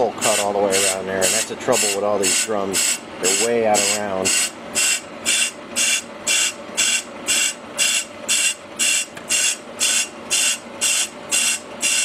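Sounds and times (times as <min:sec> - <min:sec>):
steady machine hum: 0:00.0 - 0:12.0
lathe bit scraping brake drum: 0:00.2 - 0:12.0.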